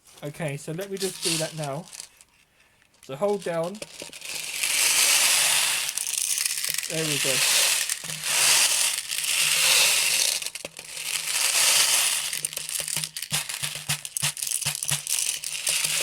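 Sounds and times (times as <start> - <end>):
plastic pellets rattling through funnel: 0.8 - 2.3, 2.9 - 16.0
pellets clicking and ticking: 0.8 - 16.0.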